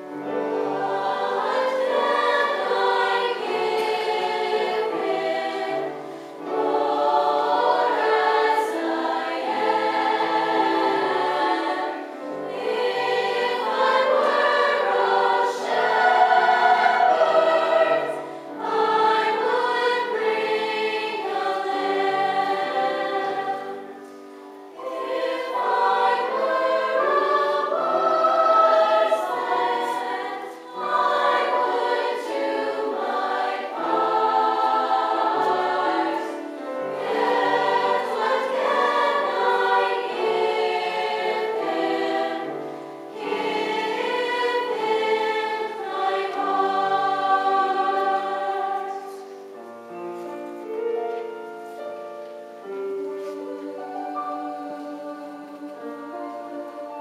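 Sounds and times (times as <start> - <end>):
youth choir singing in parts: 0.0 - 49.6, 52.6 - 57.0.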